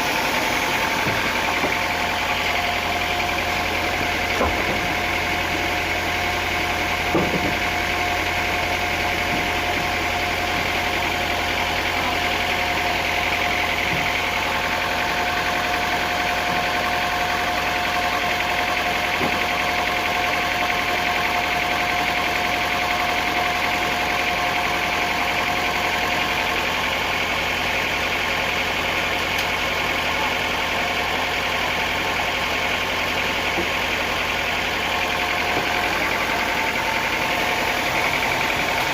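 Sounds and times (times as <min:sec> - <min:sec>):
sawmill machinery hum: 0:00.0 - 0:38.9.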